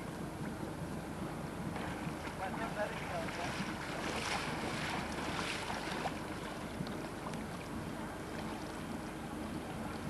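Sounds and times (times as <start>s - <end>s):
water at the shore: 0.0s - 10.0s.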